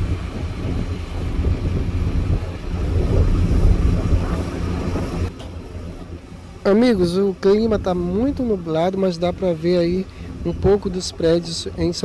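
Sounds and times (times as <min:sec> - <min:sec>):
ferry engines rumbling: 0:00.0 - 0:12.0
wind buffeting microphone: 0:00.0 - 0:12.0.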